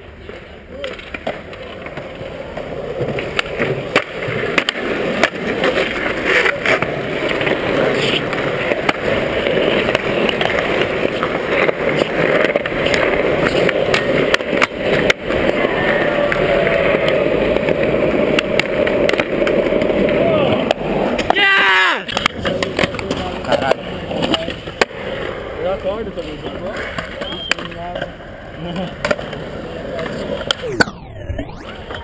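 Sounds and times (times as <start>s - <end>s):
skateboard clacks: 0.0s - 30.9s
skateboard wheels rolling on concrete: 0.0s - 32.0s.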